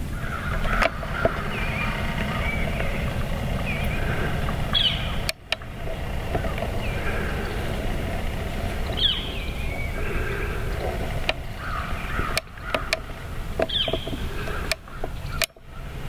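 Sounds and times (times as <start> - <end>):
wind rumble on microphone: 0.0 - 16.0
sharp clicks and crackles: 0.3 - 15.7.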